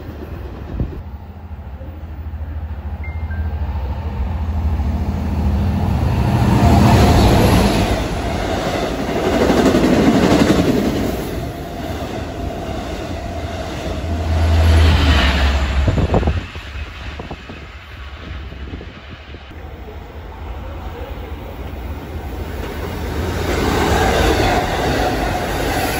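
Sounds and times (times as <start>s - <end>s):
train passing at speed: 0.0s - 25.9s.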